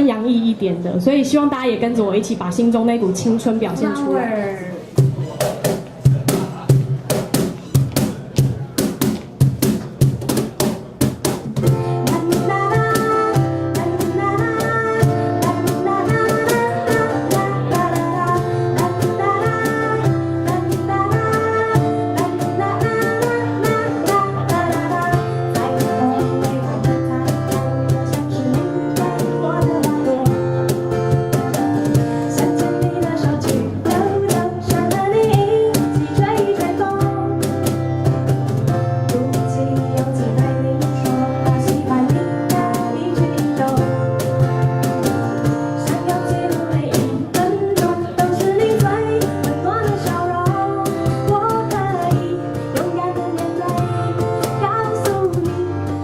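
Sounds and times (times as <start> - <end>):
live band playing upbeat song: 4.8 - 56.0
steady drum beat: 4.9 - 55.7.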